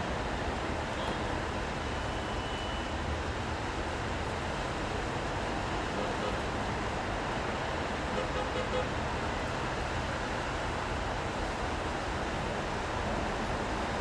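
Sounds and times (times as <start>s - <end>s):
traffic in the rain: 0.0s - 14.0s.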